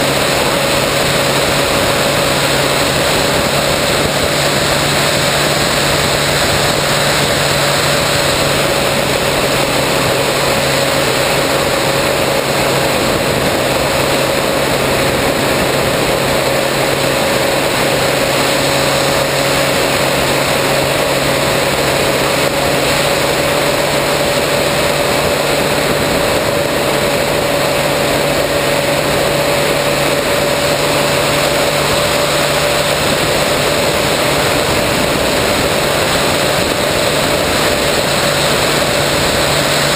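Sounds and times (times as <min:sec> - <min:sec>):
electric motor whine: 0:00.0 - 0:39.9
rushing air noise: 0:00.0 - 0:39.9.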